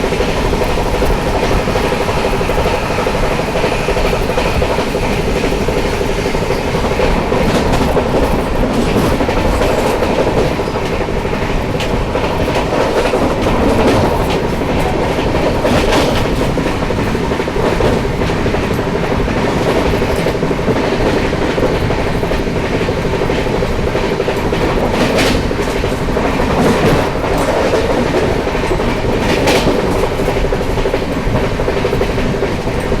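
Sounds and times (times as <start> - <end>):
train rumble: 0.0 - 33.0
train wheels clicking over joints: 0.0 - 33.0.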